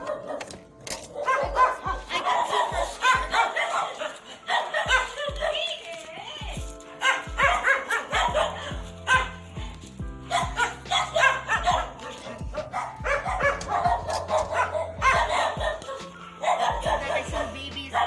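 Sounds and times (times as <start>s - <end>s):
background music: 0.0s - 18.0s
dogs barking: 0.0s - 18.0s.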